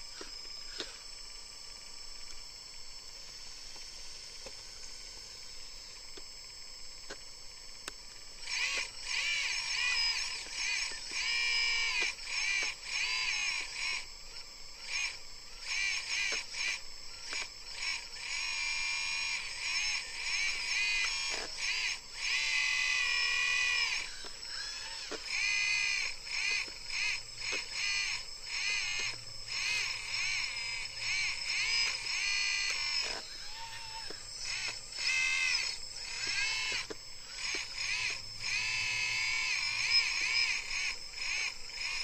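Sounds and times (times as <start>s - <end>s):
hydraulic pump whining: 0.0s - 42.0s.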